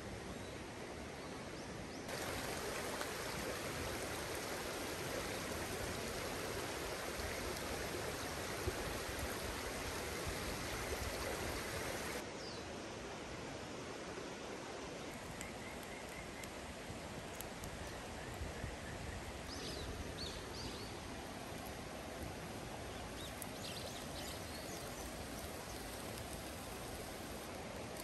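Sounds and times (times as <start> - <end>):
stream rushing water: 2.0 - 28.0.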